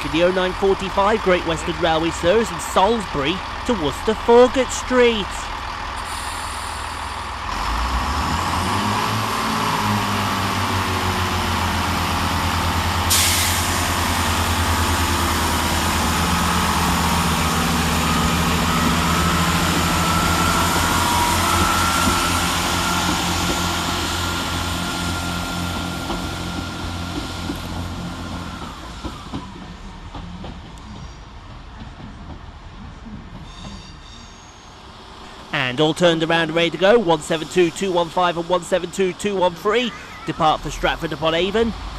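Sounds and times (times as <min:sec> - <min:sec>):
diesel train engines running: 0:00.0 - 0:41.9.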